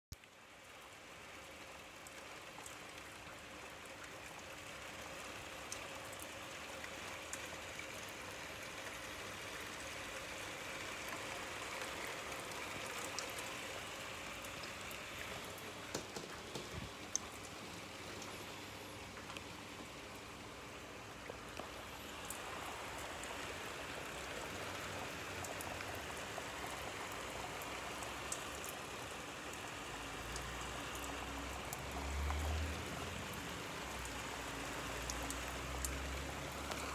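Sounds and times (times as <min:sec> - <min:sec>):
raindrops ticking nearby: 0:00.1 - 0:36.9
steady rain: 0:00.1 - 0:36.9.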